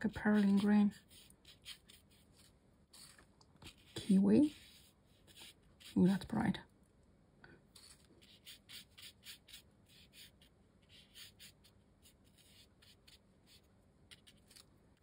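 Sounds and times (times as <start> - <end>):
paintbrush strokes on paper: 0.0 - 6.4, 7.7 - 14.6.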